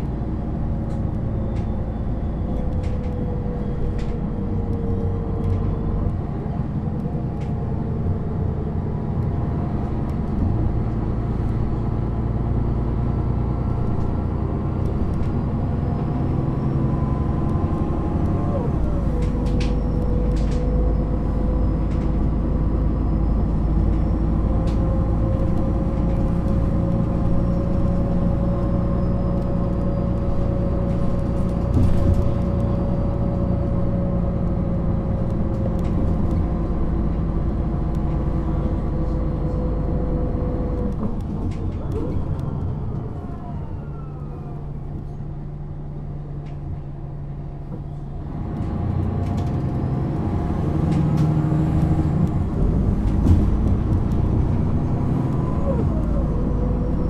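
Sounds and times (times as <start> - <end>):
bus engine idling with whine: 0.0 - 57.0.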